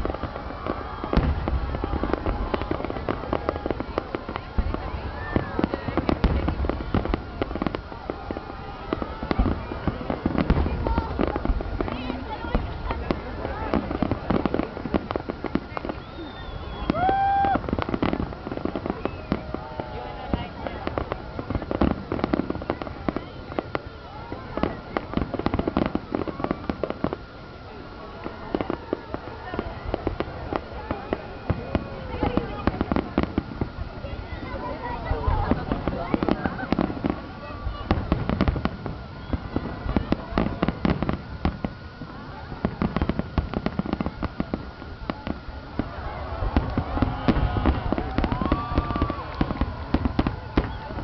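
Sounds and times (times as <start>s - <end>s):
fireworks bangs and crackling: 0.0s - 51.0s.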